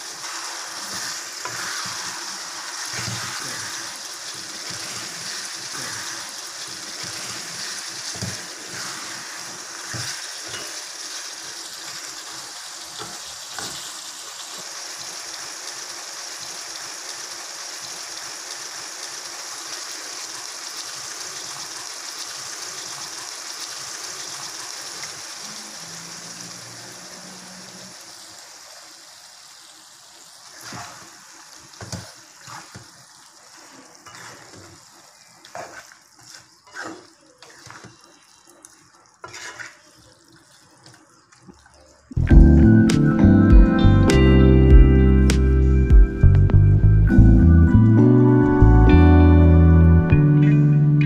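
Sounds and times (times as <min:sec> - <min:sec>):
chicken frying in oil: 0:00.0 - 0:42.2.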